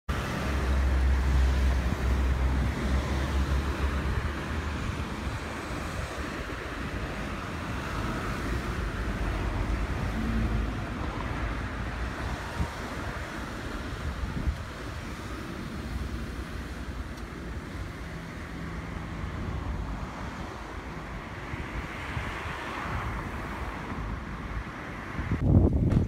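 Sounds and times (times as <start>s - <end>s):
steady outdoor hiss: 0.1s - 26.0s
wind buffeting microphone: 0.3s - 26.0s.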